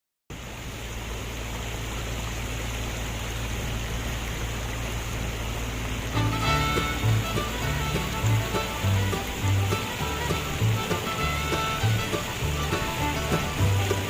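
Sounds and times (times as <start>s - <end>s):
heavy machinery engine humming: 0.3s - 14.0s.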